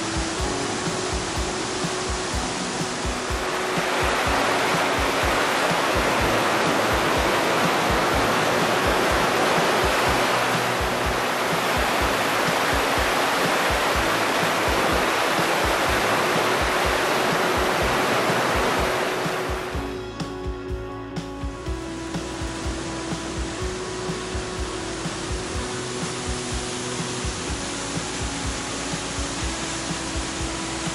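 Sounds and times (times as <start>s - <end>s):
waterfall pouring onto rock: 0.0s - 19.7s, 24.3s - 30.9s.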